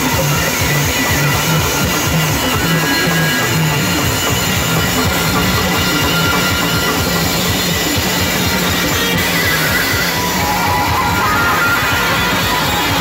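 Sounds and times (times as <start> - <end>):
heavy drum beat: 0.0 - 13.0
loud band music over sound system: 0.0 - 13.0.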